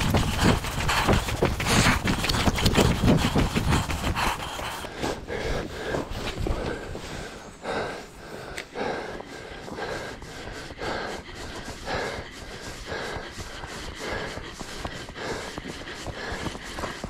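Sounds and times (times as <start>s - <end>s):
man panting: 0.0s - 17.0s.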